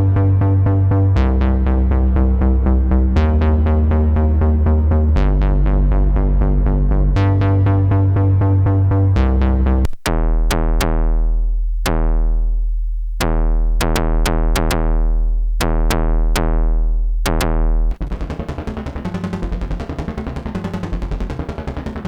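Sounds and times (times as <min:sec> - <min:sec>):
buzzy synthesizer bass tone: 0:00.0 - 0:22.0.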